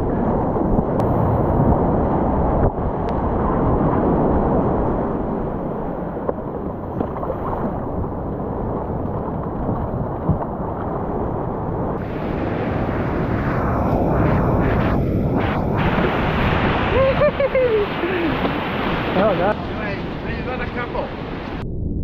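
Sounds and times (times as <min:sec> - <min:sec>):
wind buffeting microphone: 0:00.0 - 0:22.0
surf breaking: 0:00.2 - 0:21.6.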